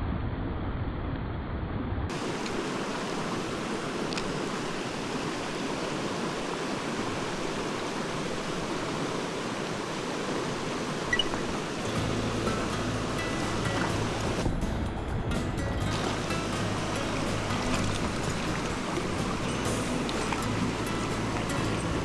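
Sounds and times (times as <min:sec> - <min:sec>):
stream flowing over rocks: 0:02.1 - 0:14.5, 0:15.8 - 0:22.0.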